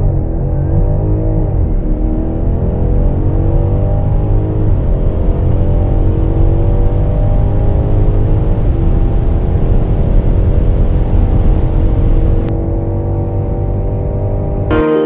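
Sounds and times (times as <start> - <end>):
car engine accelerating: 0.0 - 14.8.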